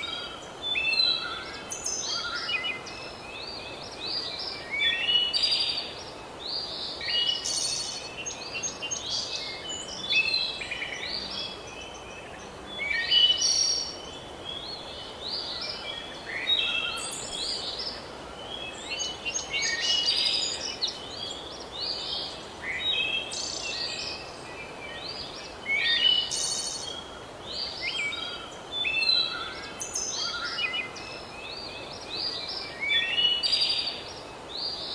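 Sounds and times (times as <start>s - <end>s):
background hiss: 0.0s - 34.9s
birds chirping: 0.0s - 34.9s.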